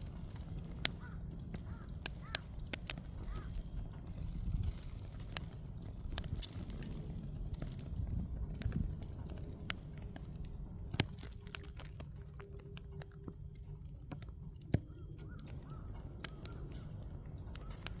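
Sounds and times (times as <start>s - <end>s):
firewood crackling: 0.0s - 18.0s
low steady rumble: 0.0s - 18.0s.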